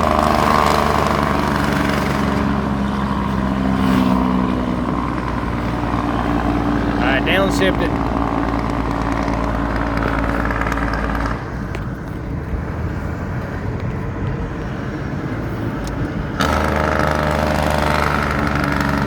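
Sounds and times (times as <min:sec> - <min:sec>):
engine and road noise: 0:00.0 - 0:19.0.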